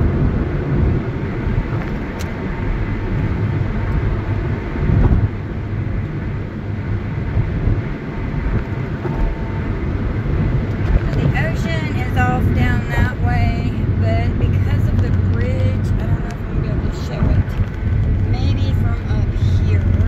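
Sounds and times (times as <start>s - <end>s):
tyre rumble inside moving car: 0.0s - 20.0s.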